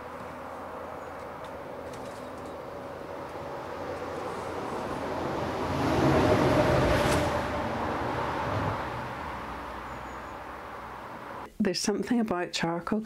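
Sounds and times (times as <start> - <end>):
vehicle passing by: 0.0 - 11.5.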